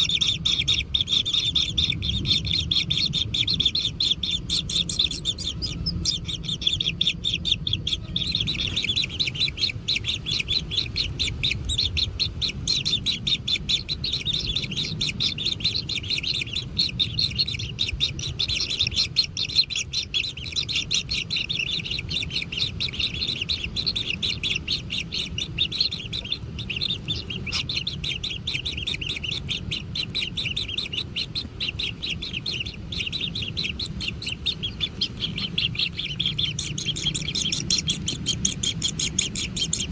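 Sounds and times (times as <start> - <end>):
low background rumble: 0.0 - 39.9
nestlings chirping: 0.0 - 39.9.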